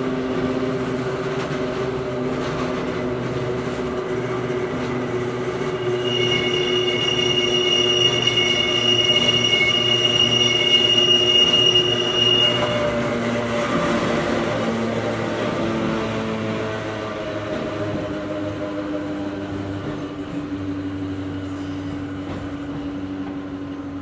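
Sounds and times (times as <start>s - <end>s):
train motor hum and whine: 0.0s - 24.0s
train wheels squealing: 0.0s - 24.0s.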